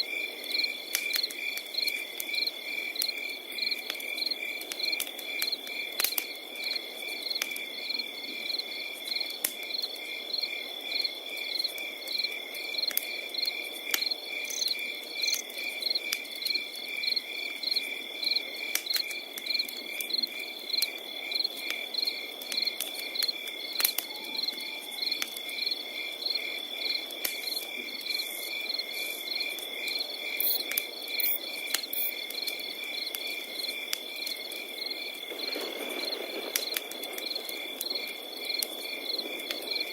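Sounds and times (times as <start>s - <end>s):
cricket steady trill: 0.0s - 39.9s
crickets chirping: 0.0s - 39.9s
fire crackling: 0.0s - 39.9s.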